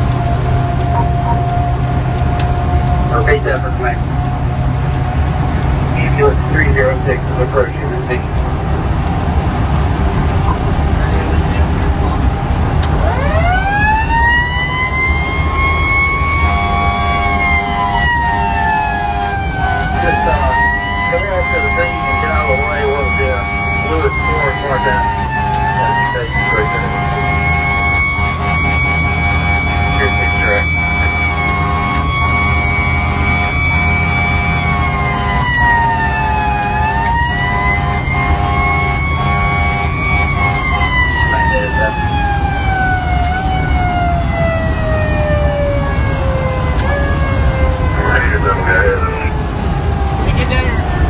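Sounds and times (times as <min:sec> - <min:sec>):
fire engine siren wailing: 0:00.0 - 0:51.0
steady siren tone: 0:00.0 - 0:51.0
truck engine and road rumble: 0:00.0 - 0:51.0.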